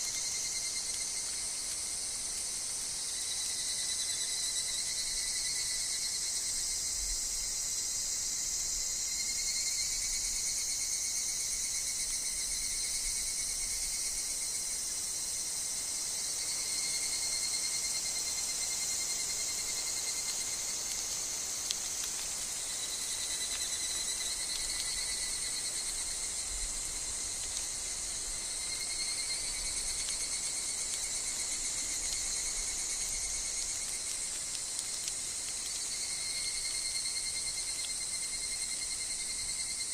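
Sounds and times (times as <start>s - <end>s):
insect chorus: 0.0s - 39.9s
cicadas calling: 3.0s - 39.9s.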